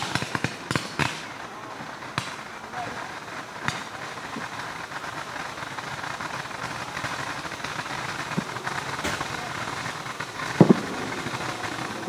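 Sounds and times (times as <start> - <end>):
firework hissing crackle: 0.0 - 12.0
sharp firework pops: 0.0 - 12.0.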